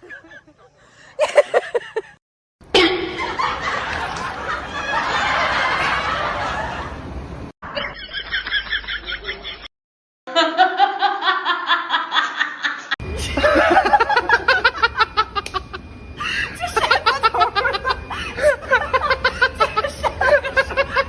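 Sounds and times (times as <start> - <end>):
people laughing: 0.0 - 2.2, 2.8 - 7.1, 7.7 - 9.7, 10.3 - 21.0.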